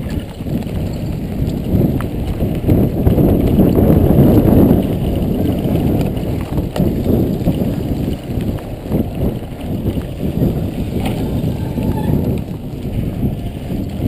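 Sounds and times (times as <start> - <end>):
mountain bike rattling and knocking: 0.0 - 14.0
wind buffeting microphone: 0.0 - 14.0.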